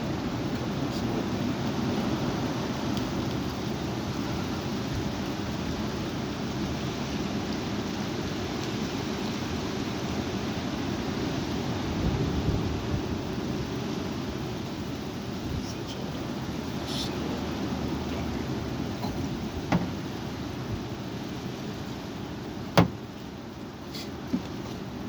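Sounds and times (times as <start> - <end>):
high wind rumbling on microphone: 0.0 - 23.2.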